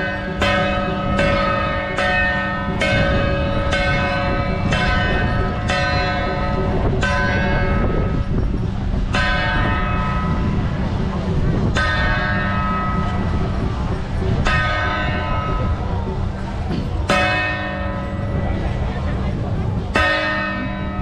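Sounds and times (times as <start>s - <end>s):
crowd background noise: 0.0s - 21.0s.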